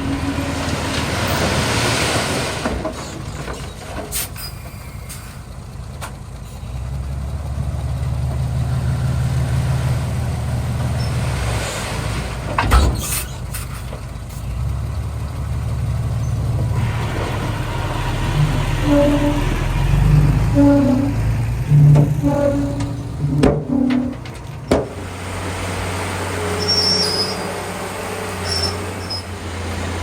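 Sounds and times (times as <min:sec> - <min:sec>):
bulldozer diesel engine: 0:00.0 - 0:30.0.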